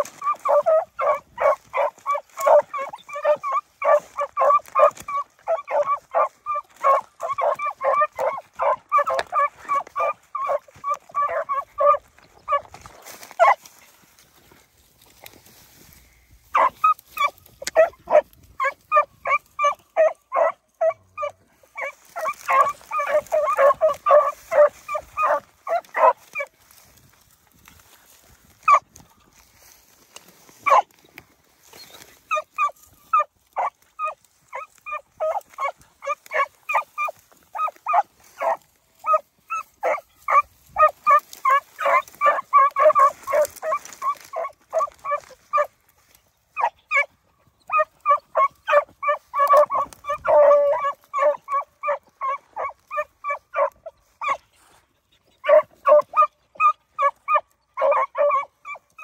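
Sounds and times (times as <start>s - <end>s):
hounds baying and barking: 0.0s - 59.0s.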